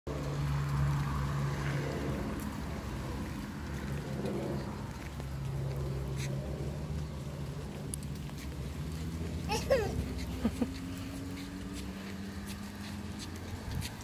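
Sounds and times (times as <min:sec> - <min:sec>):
outdoor noise: 0:00.0 - 0:14.0.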